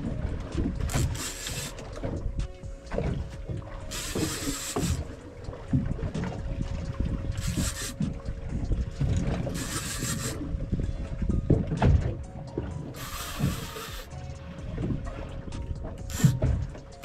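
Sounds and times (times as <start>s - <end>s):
wind and water noise: 0.0s - 17.0s.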